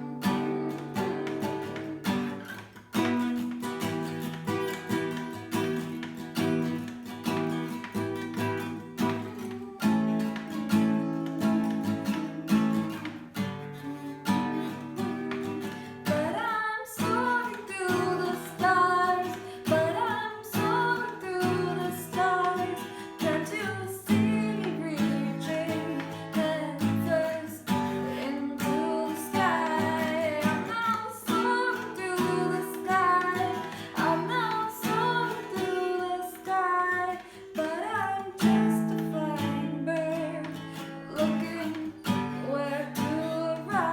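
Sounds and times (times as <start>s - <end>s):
acoustic guitar strumming: 0.0s - 43.9s
woman singing: 0.0s - 43.9s.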